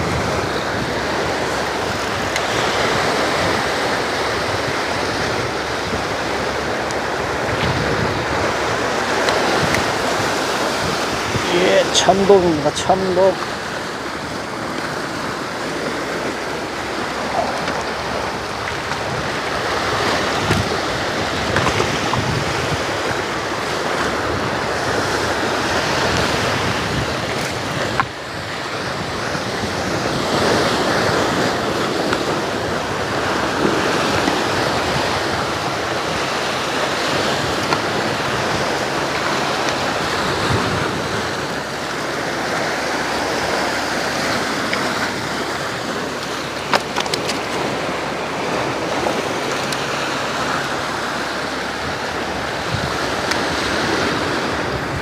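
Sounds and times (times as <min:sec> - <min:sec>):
sea waves washing against rocks: 0:00.0 - 0:55.0
wind buffeting microphone: 0:00.0 - 0:55.0.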